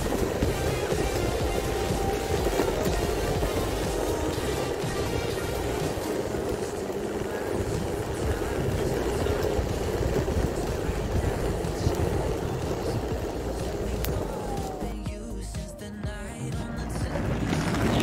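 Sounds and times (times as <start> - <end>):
wheels rumbling on asphalt: 0.0 - 18.0.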